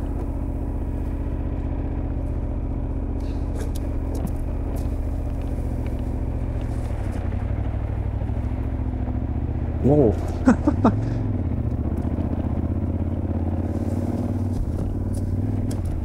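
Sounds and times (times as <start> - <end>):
motorcycle engine running at low revs: 0.0 - 16.0.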